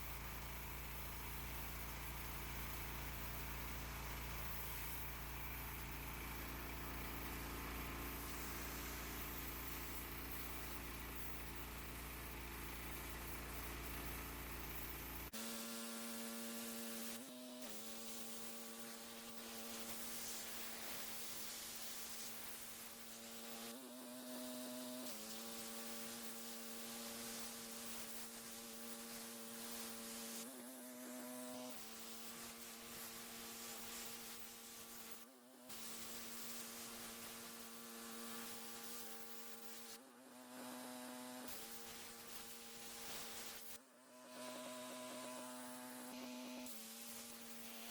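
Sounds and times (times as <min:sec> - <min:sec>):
pressure washer engine running: 0:00.0 - 0:47.9
water spray hiss: 0:00.0 - 0:47.9.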